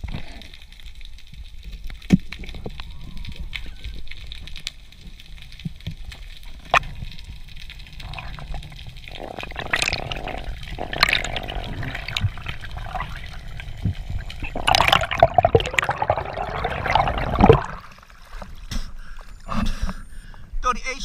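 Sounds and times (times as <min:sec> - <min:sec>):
open-air water sound: 0:00.0 - 0:20.5
underwater water noise and bubbling: 0:00.0 - 0:20.6.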